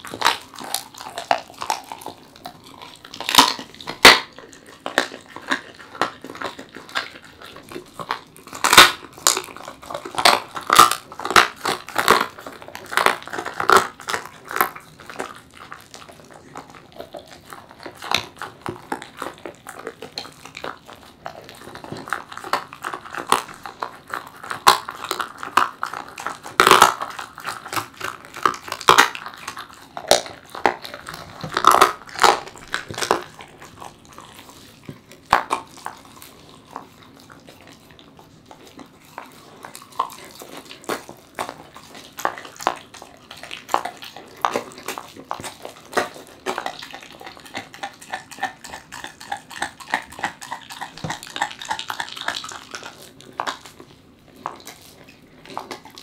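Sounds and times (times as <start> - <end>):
dog chewing and crunching: 0.0 - 56.0.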